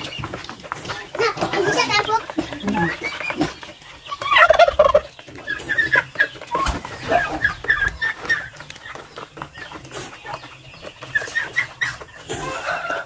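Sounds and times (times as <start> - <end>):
young turkeys chirping and clucking: 0.0 - 13.0.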